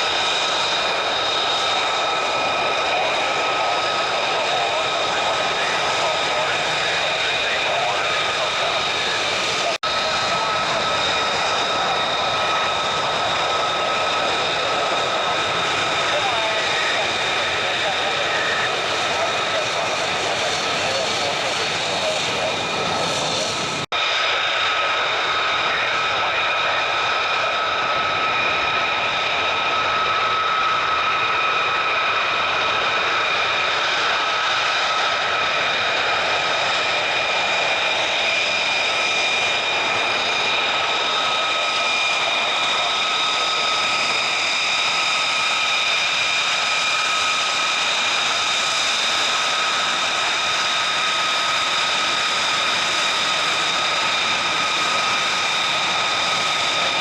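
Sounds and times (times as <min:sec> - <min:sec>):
jet engine roar with high whine: 0:00.0 - 0:57.0.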